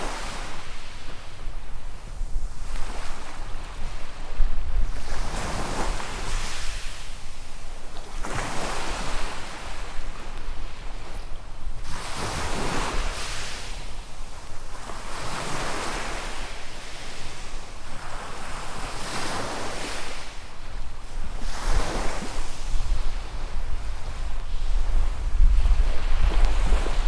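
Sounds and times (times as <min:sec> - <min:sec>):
small waves breaking on sand: 0:00.0 - 0:27.0
wind rumble on microphone: 0:00.0 - 0:27.0.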